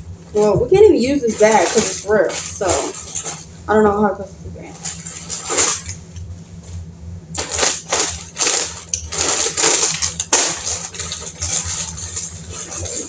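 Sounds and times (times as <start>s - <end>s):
plastic packaging crinkling: 0.2s - 13.0s.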